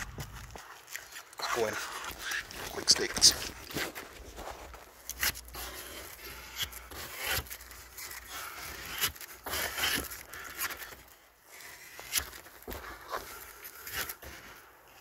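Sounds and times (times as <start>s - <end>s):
filler scraping: 0.0s - 15.0s.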